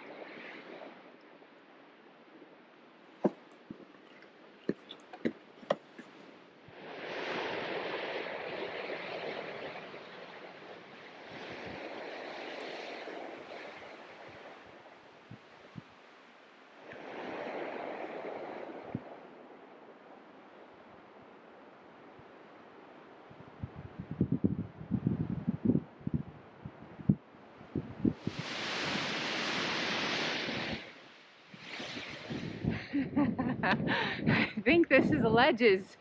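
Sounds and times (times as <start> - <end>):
strong wind gusting over microphone: 6.0 - 35.8.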